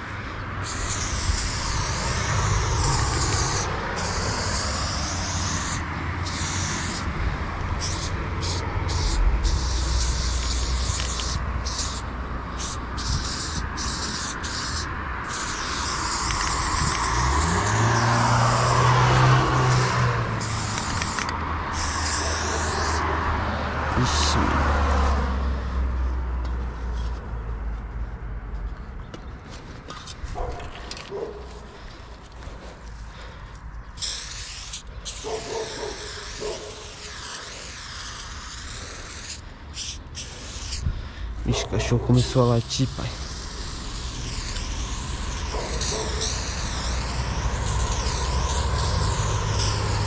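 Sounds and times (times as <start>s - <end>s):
spray paint can hissing: 0.0s - 23.3s, 29.9s - 50.0s
vehicle passing: 0.0s - 50.0s.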